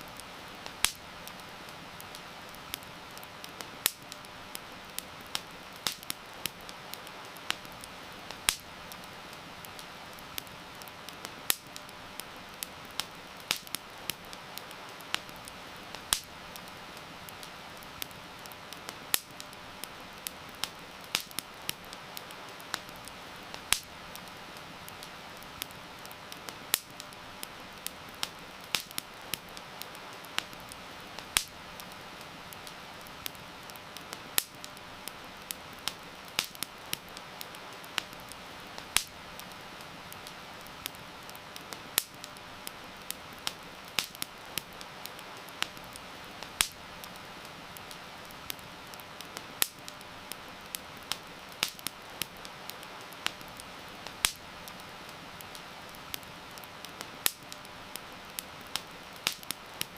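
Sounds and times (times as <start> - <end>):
campfire crackling and popping: 0.0 - 59.9
heavy rain hiss: 0.0 - 59.9.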